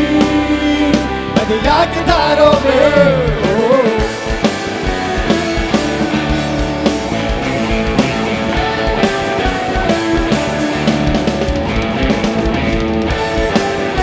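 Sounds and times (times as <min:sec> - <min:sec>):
guitar: 0:00.0 - 0:14.0
steady drum beat: 0:00.0 - 0:14.0.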